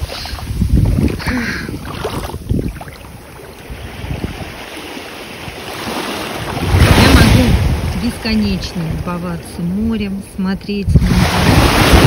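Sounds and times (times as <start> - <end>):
sea waves breaking on shore: 0.0 - 12.0
wind buffeting microphone: 0.0 - 12.0.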